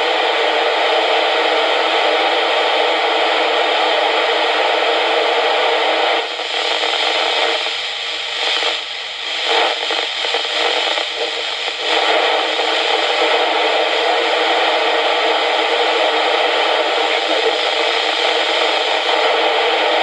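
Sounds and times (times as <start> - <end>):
radio receiver hiss: 0.0 - 20.0
radio signal crackling: 0.0 - 20.0.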